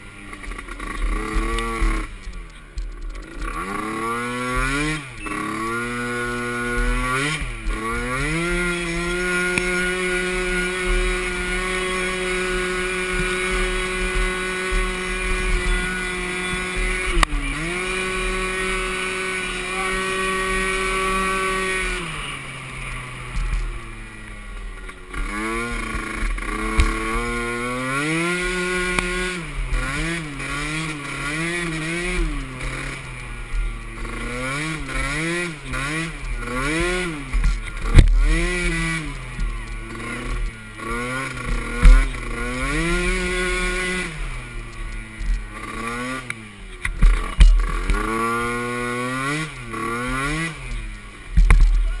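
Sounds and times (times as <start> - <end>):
small atv engine revving: 0.0 - 52.0.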